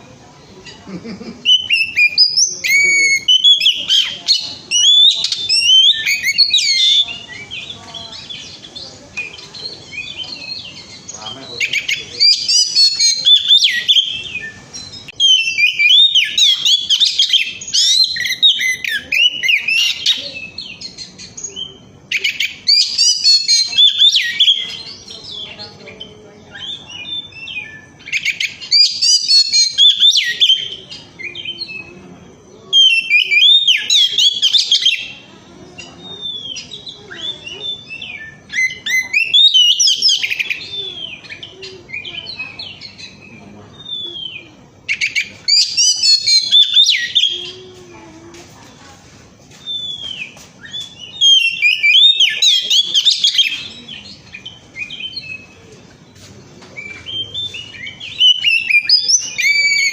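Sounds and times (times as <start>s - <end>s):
bird singing whistled phrases: 1.4s - 32.1s, 32.7s - 47.6s, 49.5s - 55.6s, 56.8s - 59.9s.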